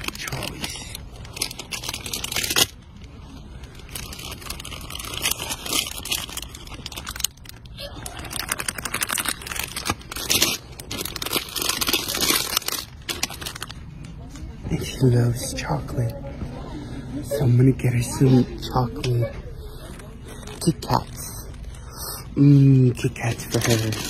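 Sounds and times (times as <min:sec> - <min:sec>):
plastic candy bags crinkling: 0:00.0 - 0:15.9, 0:19.8 - 0:24.0.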